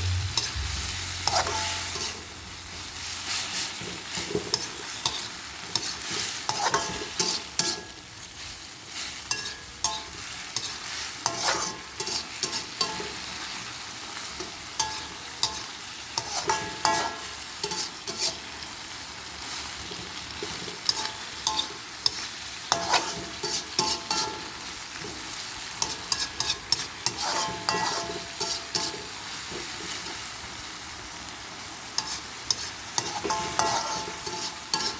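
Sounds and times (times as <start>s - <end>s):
metal spatula scraping pan: 0.0s - 8.0s, 9.0s - 13.5s, 14.4s - 18.6s, 20.4s - 25.1s, 25.8s - 30.2s, 32.0s - 34.9s
vegetables sizzling in pan: 0.0s - 34.9s.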